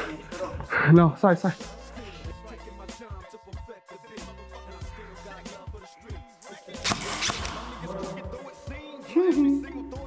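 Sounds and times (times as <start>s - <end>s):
background music with bass line: 1.5s - 10.0s.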